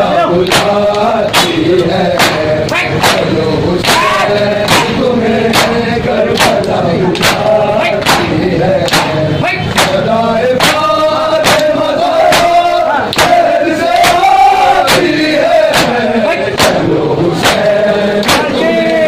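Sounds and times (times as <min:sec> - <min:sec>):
men chanting a lament: 0:00.0 - 0:19.0
palms slapping chests: 0:00.4 - 0:19.0.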